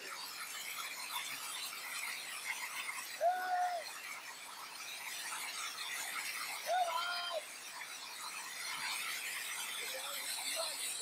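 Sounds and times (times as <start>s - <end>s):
hailstones pelting pavement: 0.0s - 11.0s.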